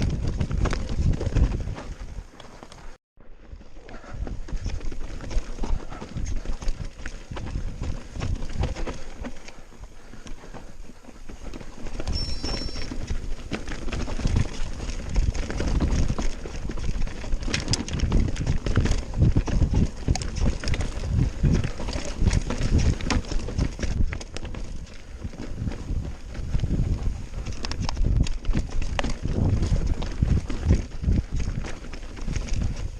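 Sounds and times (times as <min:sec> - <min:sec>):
bike rattling: 0:00.0 - 0:32.9.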